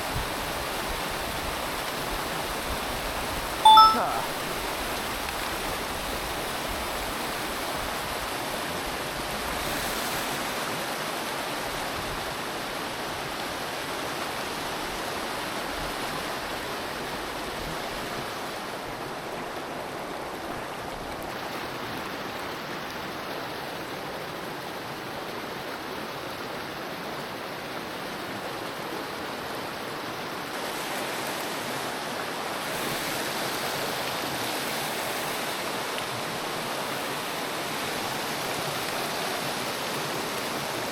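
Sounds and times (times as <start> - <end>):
stream water flowing: 0.2 - 40.9.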